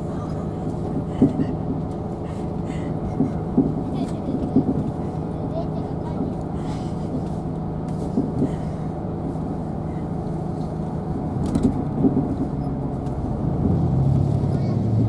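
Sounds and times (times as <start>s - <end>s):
diesel engine drone: 0.0s - 15.0s
wheels rumbling on rails: 0.0s - 15.0s.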